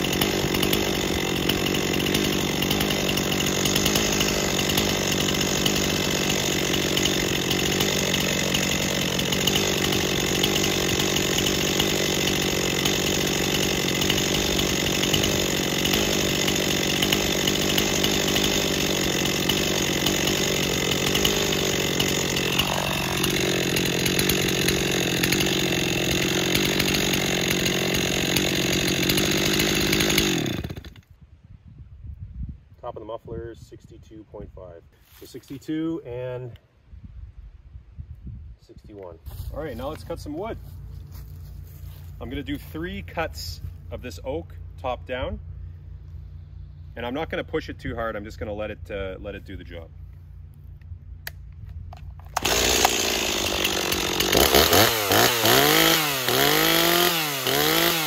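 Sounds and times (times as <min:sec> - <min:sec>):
chainsaw idling: 0:00.0 - 0:31.0, 0:39.3 - 0:58.0.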